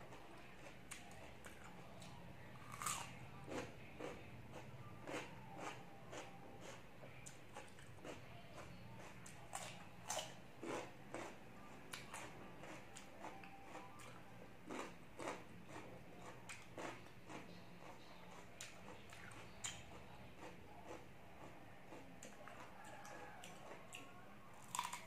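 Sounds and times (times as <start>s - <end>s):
chewing crunchy vegetables: 0.0s - 25.0s
faint low hum: 0.0s - 25.0s.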